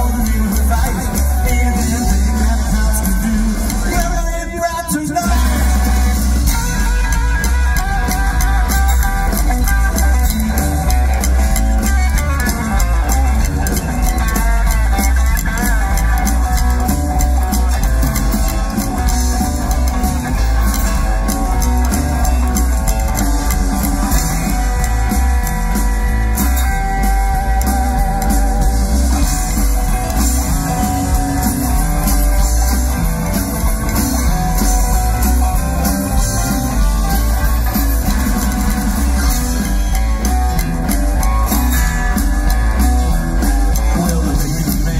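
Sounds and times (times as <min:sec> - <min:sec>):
upright double bass: 0:00.0 - 0:04.4, 0:05.2 - 0:44.9
drums: 0:00.0 - 0:44.9
electric guitar: 0:00.0 - 0:44.9.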